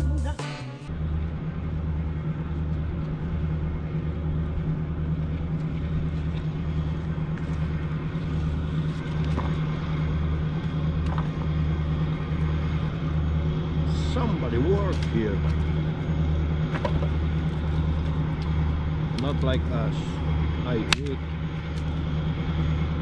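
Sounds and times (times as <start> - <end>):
boat diesel engines droning: 0.0 - 23.0.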